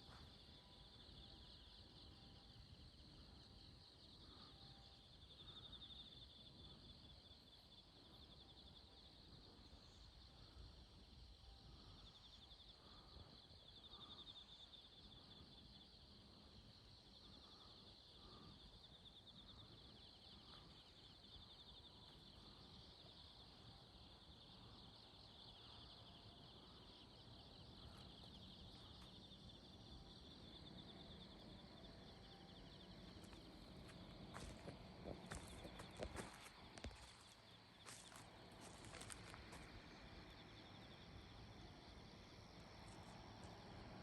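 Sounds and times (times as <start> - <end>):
insect chorus trilling: 0.0 - 44.0.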